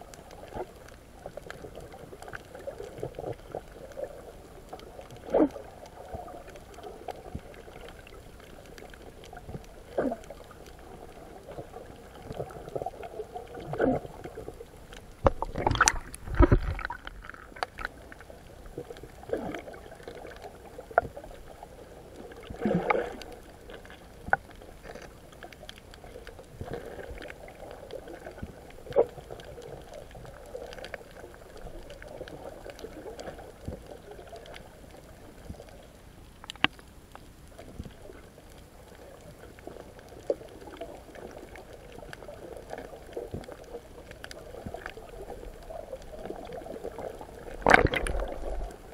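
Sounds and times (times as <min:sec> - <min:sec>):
muffled underwater rush: 0:00.0 - 0:36.4, 0:37.0 - 0:48.9.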